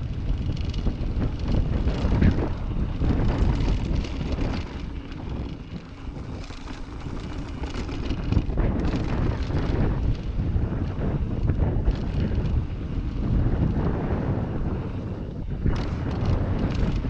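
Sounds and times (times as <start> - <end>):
bike rattling over bumps: 0.0 - 17.0
tyre rumble: 0.0 - 17.0
wind rushing over microphone: 0.0 - 17.0.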